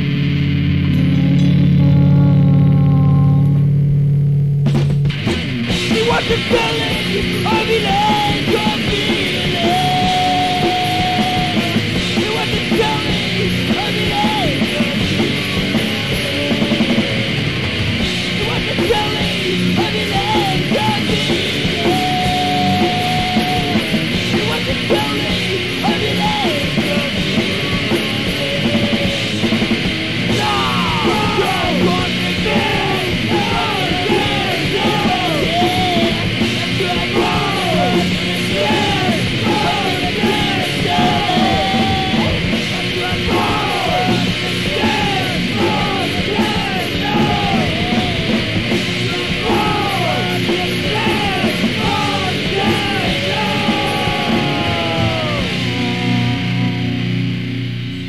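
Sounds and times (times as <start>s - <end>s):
heavy punk rock music: 0.0s - 58.0s
yelled vocals: 5.1s - 57.2s.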